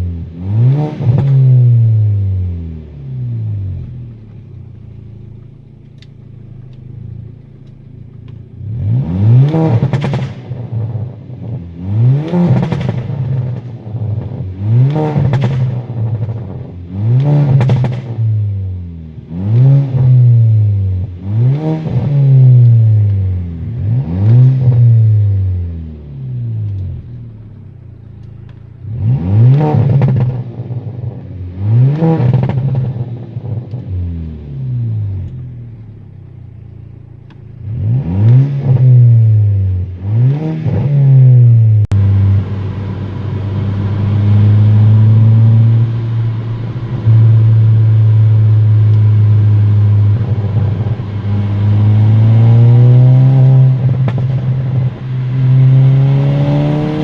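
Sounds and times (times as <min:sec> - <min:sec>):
car engine revving: 0:00.0 - 0:57.0
exhaust crackles and pops: 0:00.0 - 0:57.0.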